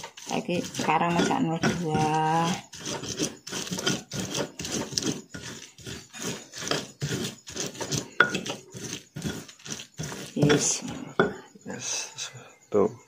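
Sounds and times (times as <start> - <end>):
pestle grinding in stone mortar: 0.0 - 11.5.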